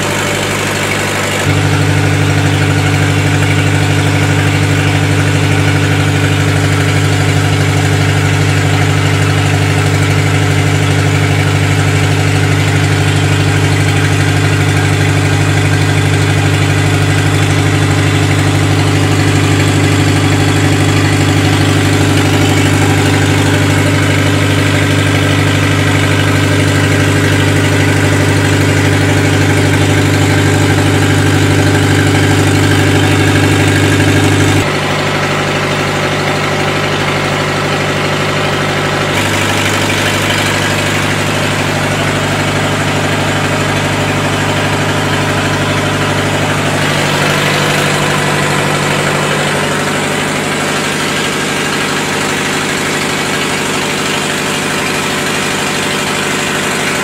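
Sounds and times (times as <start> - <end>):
diesel generator engine running: 0.0 - 57.0.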